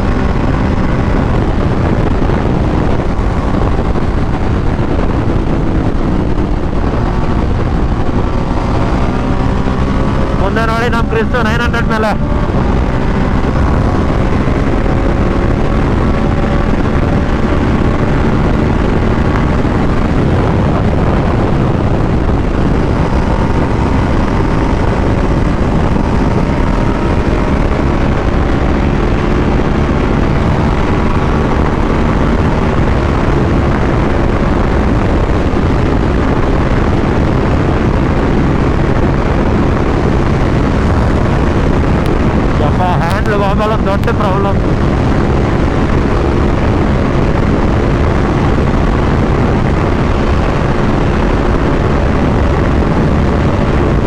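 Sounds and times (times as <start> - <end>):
motorbike engine at speed: 0.0 - 54.0
wind rushing on microphone: 0.0 - 54.0.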